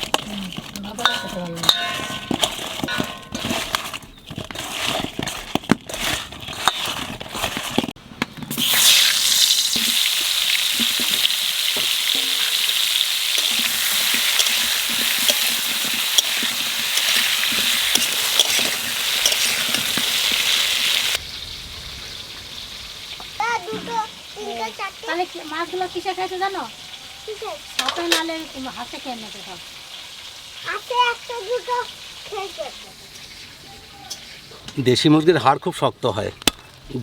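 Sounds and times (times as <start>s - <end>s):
potatoes sizzling in hot oil: 0.0s - 3.8s, 8.4s - 34.4s.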